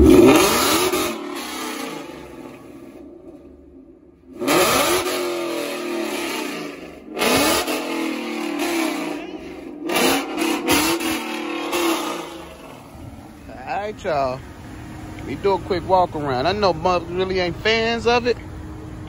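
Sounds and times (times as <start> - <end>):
car engine revving: 0.0 - 17.8
car engine idling: 0.0 - 19.0.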